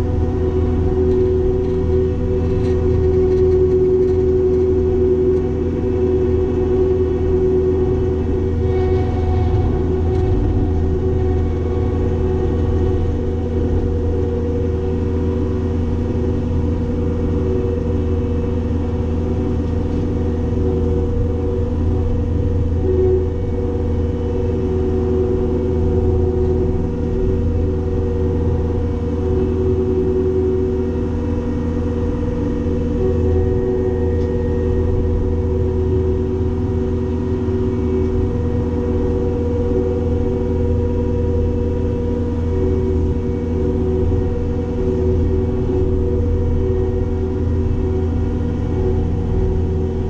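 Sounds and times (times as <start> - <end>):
diesel engine running under load: 0.0 - 50.0
hydraulic whine: 0.0 - 50.0.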